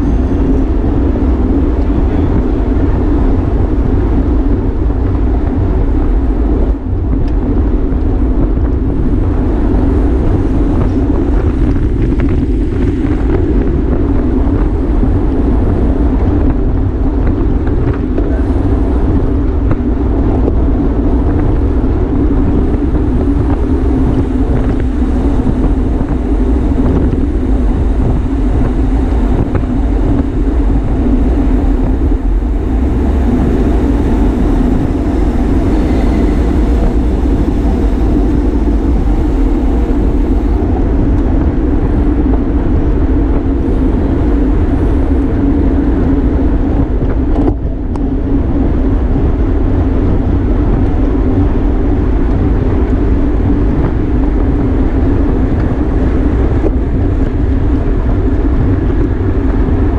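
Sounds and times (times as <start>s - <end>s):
bike tyre hum: 0.0s - 59.9s
wind rush on microphone: 0.0s - 59.9s.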